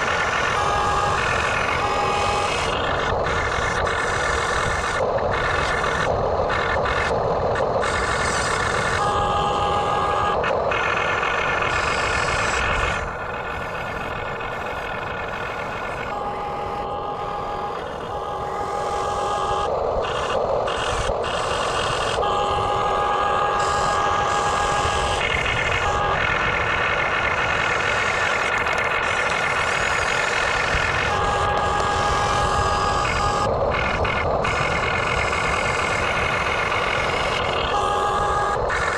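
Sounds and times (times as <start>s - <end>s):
small electric motors whining: 0.0s - 38.9s.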